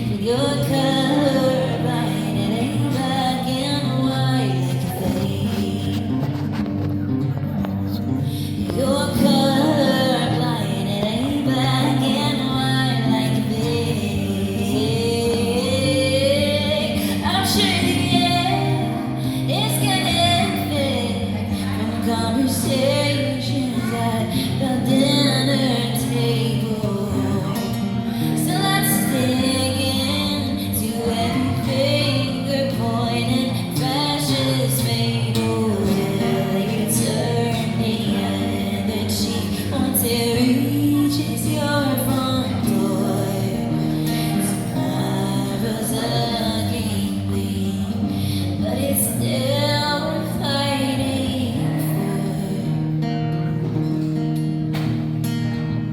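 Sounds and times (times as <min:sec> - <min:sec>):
woman singing: 0:00.0 - 0:54.3.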